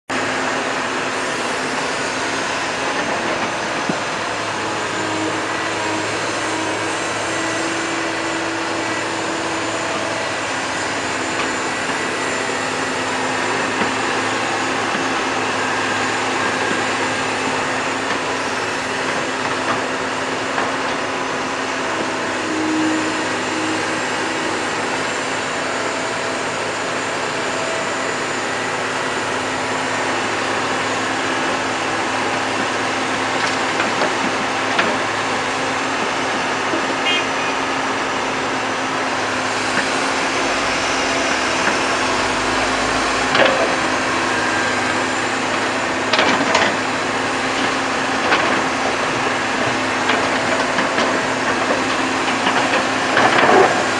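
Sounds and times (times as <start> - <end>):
excavator engine and hydraulics: 0.1 - 53.9.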